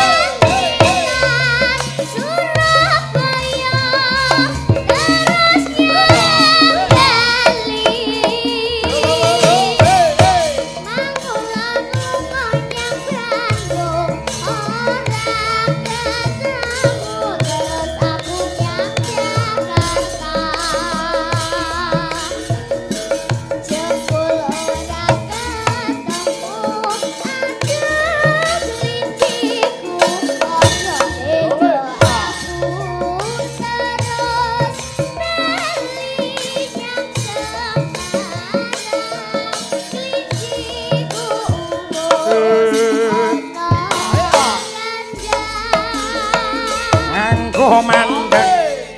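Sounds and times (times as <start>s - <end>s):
gamelan ensemble: 0.0s - 48.9s
girl singing with vibrato: 0.0s - 48.9s
hand drum strokes: 0.0s - 48.9s.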